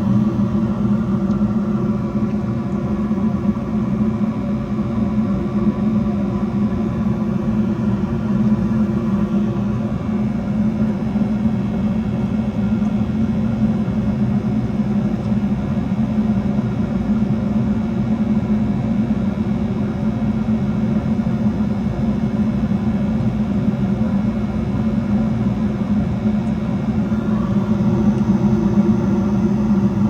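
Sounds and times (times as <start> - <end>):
gas furnace droning: 0.0 - 30.0.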